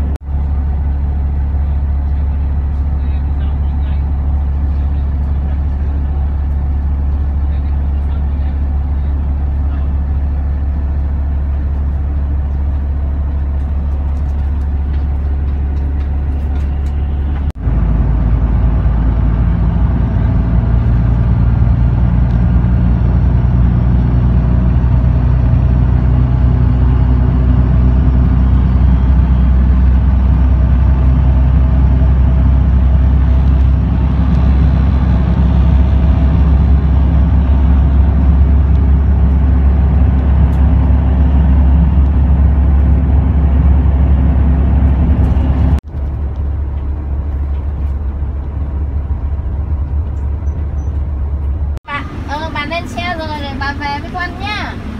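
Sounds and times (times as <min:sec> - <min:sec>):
vehicle engine and road noise: 0:00.0 - 0:54.9.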